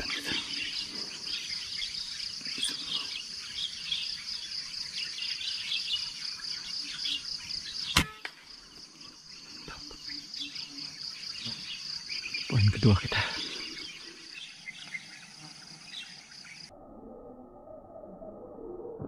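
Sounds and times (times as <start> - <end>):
birds chirping: 0.0 - 16.7
insect chorus: 0.0 - 19.0.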